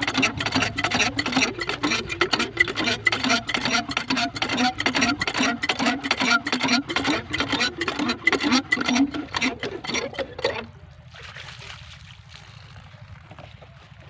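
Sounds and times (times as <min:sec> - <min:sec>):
diesel water pump engine: 0:00.0 - 0:14.0.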